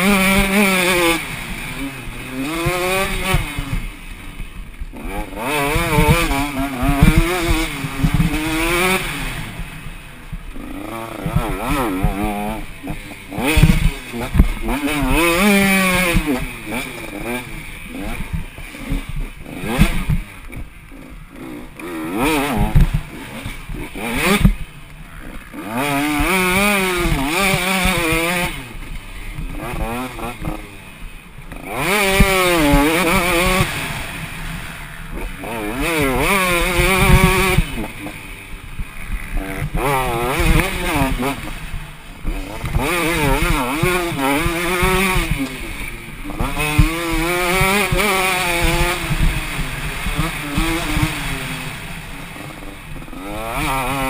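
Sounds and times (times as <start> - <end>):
dirt bike engine revving: 0.0 - 54.0
low thumps from rough track: 0.0 - 54.0.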